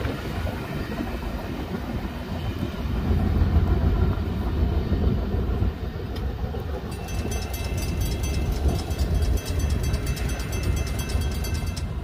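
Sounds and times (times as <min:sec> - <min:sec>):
freight train rumbling: 0:00.0 - 0:12.0
wheels clicking on rails: 0:00.0 - 0:12.0.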